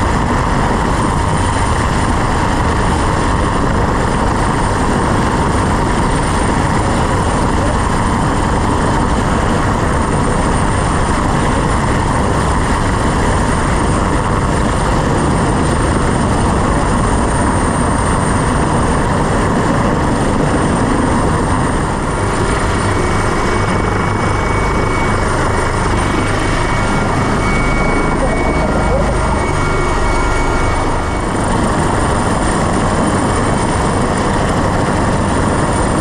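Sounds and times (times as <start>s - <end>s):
helicopter engines and rotor: 0.0s - 36.0s.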